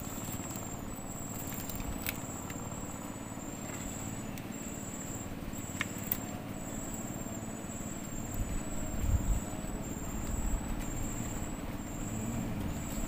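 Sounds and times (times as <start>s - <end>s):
insects chirping: 0.0s - 13.0s
steady low rumble: 0.0s - 13.0s.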